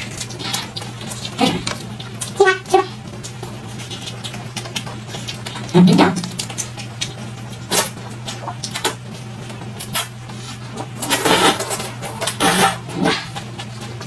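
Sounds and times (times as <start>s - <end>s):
chewing and crunching food: 0.0s - 14.0s.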